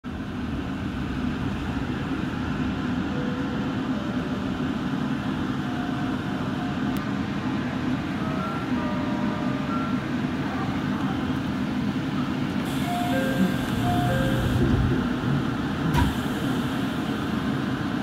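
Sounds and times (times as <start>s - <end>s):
low hum of train equipment: 0.1s - 18.0s.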